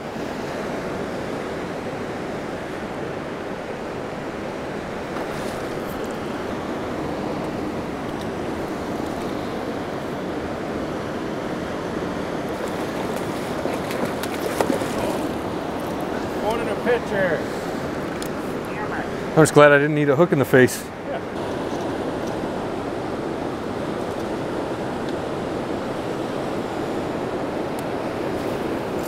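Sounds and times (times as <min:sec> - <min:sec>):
river rushing: 0:00.0 - 0:29.0.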